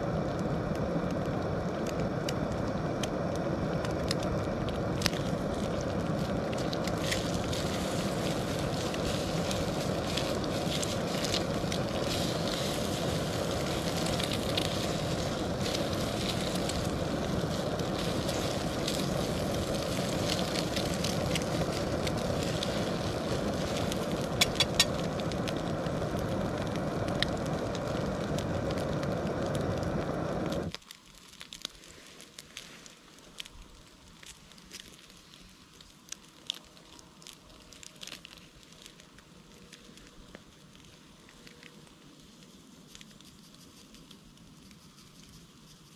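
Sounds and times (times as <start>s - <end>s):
eggs frying and crackling: 0.0s - 45.9s
stove burner hissing: 0.0s - 45.9s.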